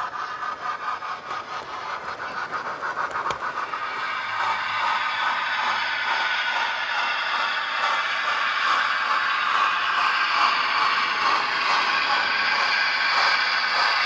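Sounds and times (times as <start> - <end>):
model train wheels rolling on track: 0.0 - 14.0.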